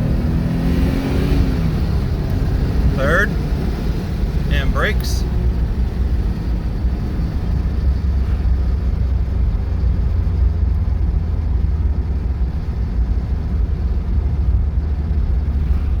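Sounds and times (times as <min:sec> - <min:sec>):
car engine drone in cabin: 0:00.0 - 0:16.0
road noise: 0:00.0 - 0:16.0.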